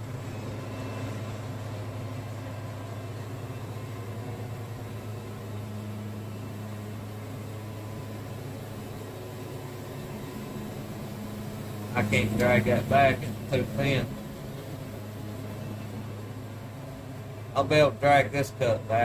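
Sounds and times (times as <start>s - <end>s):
sawmill machine drone: 0.0s - 19.0s.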